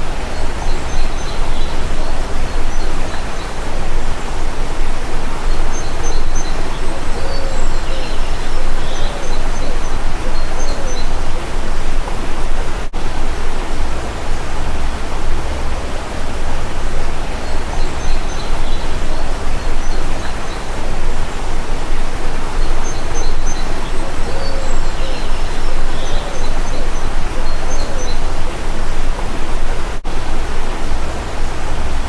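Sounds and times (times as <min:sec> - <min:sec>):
faint bird chirps: 0:00.0 - 0:12.8, 0:13.4 - 0:29.8.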